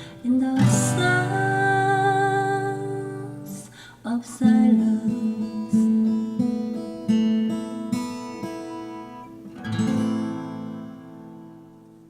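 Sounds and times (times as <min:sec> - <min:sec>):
acoustic guitar chord ringing: 0:00.0 - 0:12.0
acoustic guitar picked notes: 0:00.0 - 0:12.0.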